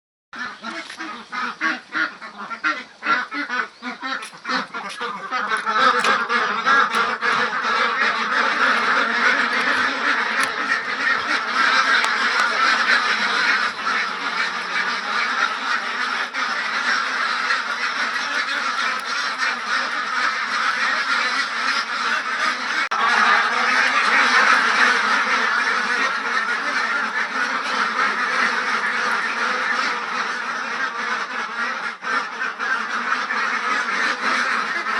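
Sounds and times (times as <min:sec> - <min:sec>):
ducks quacking: 0:00.4 - 0:34.9.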